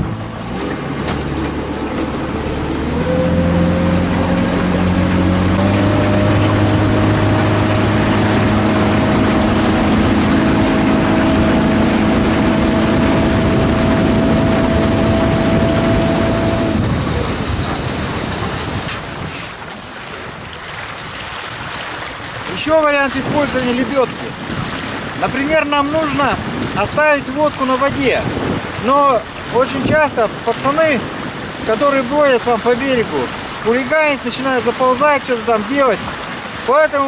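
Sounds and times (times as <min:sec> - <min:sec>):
lapping water: 0:00.0 - 0:37.0
outboard motor running: 0:00.0 - 0:37.0
water rushing past hull: 0:00.0 - 0:37.0
wind: 0:00.0 - 0:37.0.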